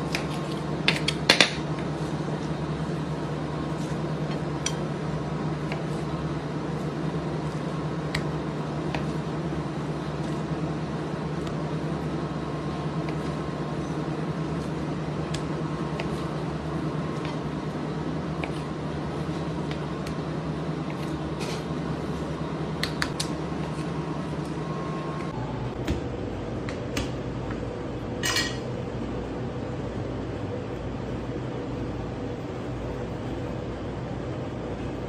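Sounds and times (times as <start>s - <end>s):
kitchen fan humming: 0.0s - 35.0s.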